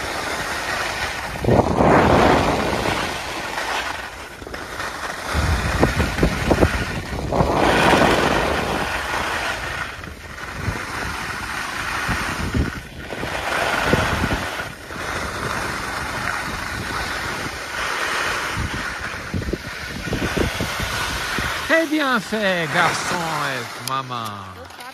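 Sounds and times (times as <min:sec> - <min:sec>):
skis scraping over snow: 0:00.0 - 0:24.9
wind buffeting microphone: 0:00.9 - 0:04.4, 0:05.0 - 0:23.8.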